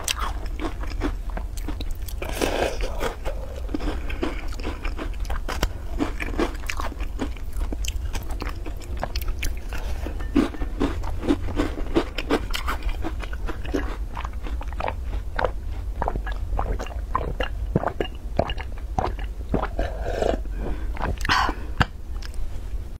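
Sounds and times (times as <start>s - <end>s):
chewing soggy cookie: 0.0s - 22.4s.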